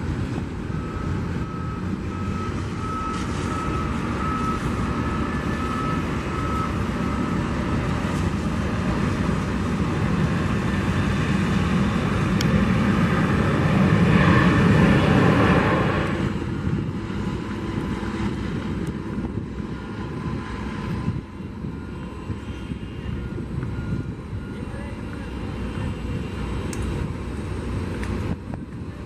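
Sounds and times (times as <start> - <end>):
faint jet on approach: 0.0 - 29.0
jet engines roaring: 0.0 - 29.0.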